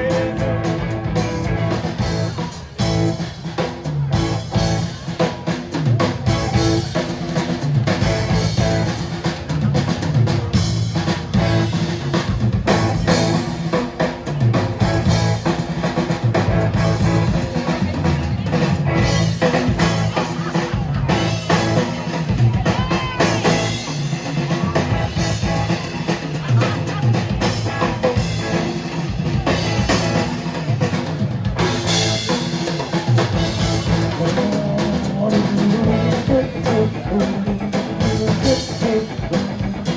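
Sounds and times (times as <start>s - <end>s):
bass drum beat: 0.0s - 39.9s
live rock band playing: 0.0s - 39.9s.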